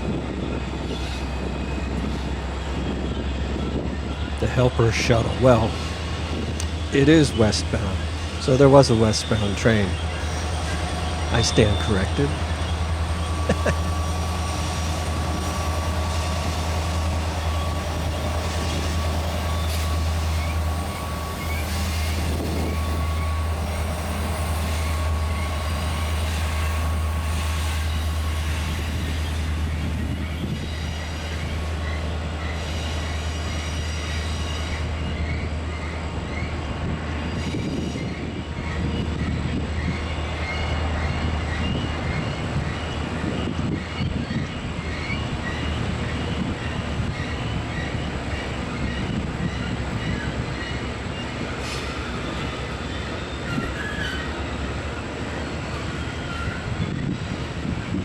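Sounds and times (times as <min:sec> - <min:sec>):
locomotive engine rumble: 0:00.0 - 0:58.0
wheel squeal: 0:00.1 - 0:58.0.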